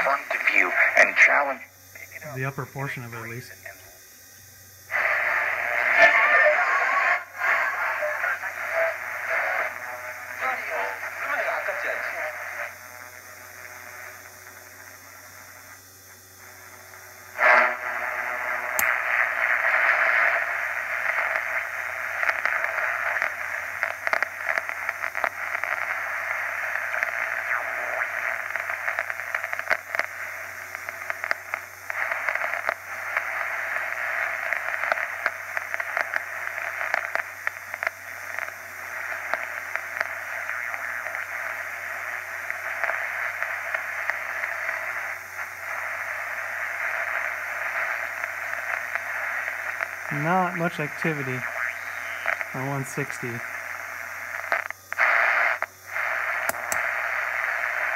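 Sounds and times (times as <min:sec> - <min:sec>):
radio static hiss with crackles: 0:00.0 - 0:57.9.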